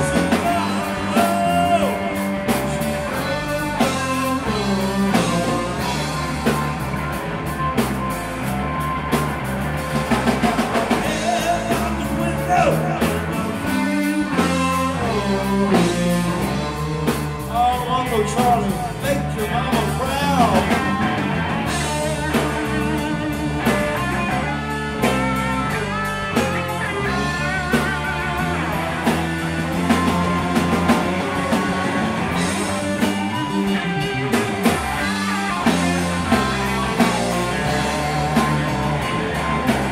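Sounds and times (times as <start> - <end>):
drum kit: 0.0 - 39.9
electric bass: 0.0 - 39.9
electric guitar lead lines: 0.0 - 39.9.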